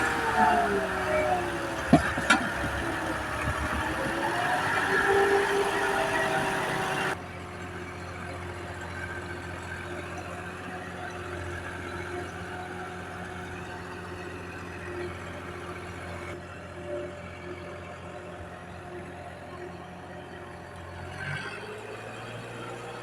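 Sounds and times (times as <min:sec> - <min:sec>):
tractor engine running under load: 0:00.0 - 0:21.1
quieter steady engine: 0:00.0 - 0:23.0.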